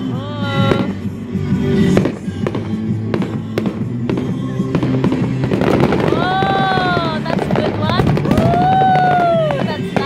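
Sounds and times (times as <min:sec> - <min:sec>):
music playing: 0:00.0 - 0:10.0
fireworks bangs: 0:00.6 - 0:10.0.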